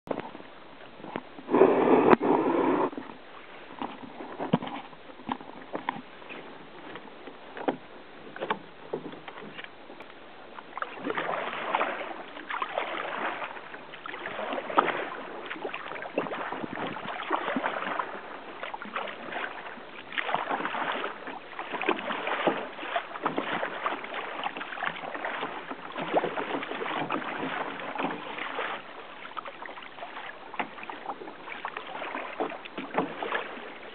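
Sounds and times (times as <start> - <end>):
kayak paddle strokes: 0.1 - 33.9
water washing along a hull: 0.1 - 33.9.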